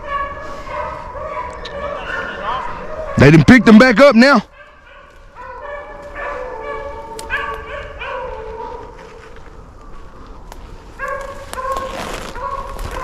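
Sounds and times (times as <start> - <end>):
dogs baying: 0.0 - 3.5, 4.5 - 9.6, 11.0 - 13.0.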